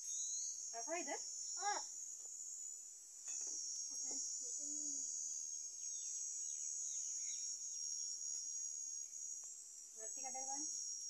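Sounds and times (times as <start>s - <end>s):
crickets chirping: 0.0s - 11.0s
faint bird chirps: 0.0s - 11.0s.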